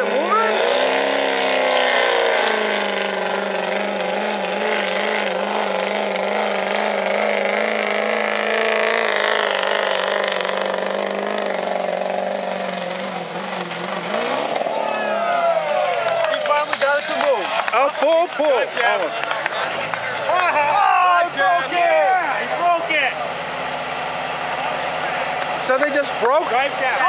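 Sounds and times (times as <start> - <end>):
diesel truck engine at high revs: 0.0 - 27.0.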